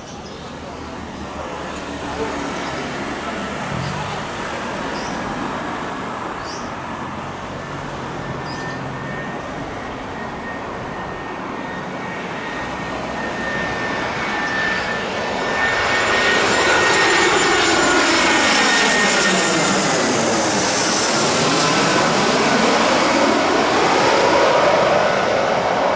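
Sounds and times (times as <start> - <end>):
jet engines whining: 0.0 - 25.9.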